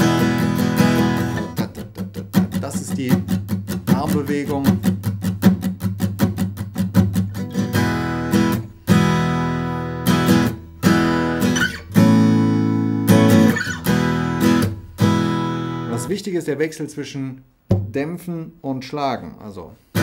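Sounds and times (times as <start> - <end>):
acoustic guitar strumming: 0.0 - 16.1.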